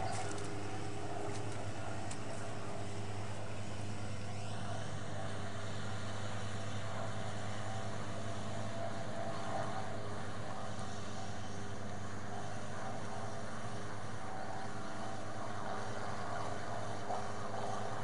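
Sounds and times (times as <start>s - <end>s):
distant vehicle engine humming: 0.0s - 18.0s.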